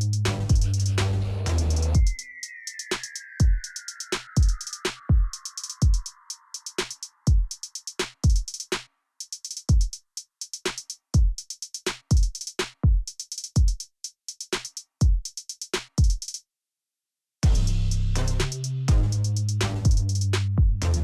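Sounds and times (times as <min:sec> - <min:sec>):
electronic drum-machine beat: 0:00.0 - 0:16.4, 0:17.4 - 0:21.0.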